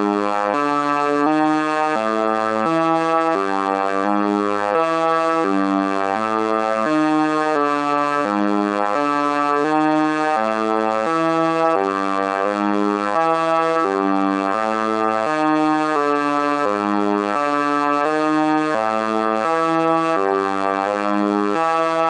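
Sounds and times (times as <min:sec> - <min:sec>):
buzzy electronic robot tones: 0:00.0 - 0:22.0.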